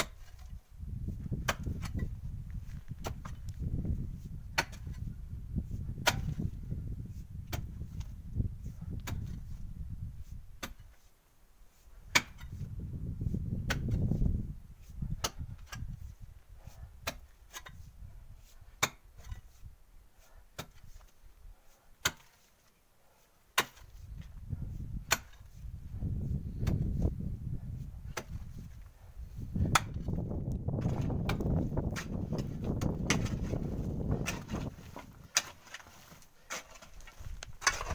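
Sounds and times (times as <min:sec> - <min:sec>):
pick striking earth and stone: 0:00.0 - 0:11.1, 0:12.0 - 0:19.6, 0:20.5 - 0:21.2, 0:22.0 - 0:22.6, 0:23.5 - 0:37.9.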